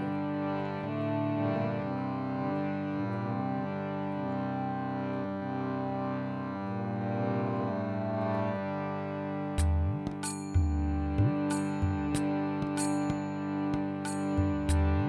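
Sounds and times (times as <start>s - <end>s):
harmonium melody over drone: 0.0s - 15.0s.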